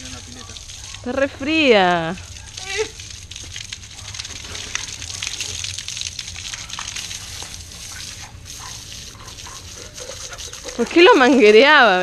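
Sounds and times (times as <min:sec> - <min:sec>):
hose water spraying: 0:00.0 - 0:12.0
water splashing: 0:00.0 - 0:12.0.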